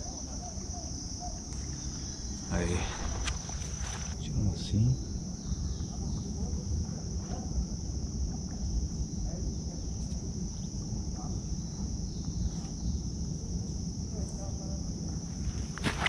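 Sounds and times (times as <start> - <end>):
high-pitched insect drone: 0.0 - 15.8.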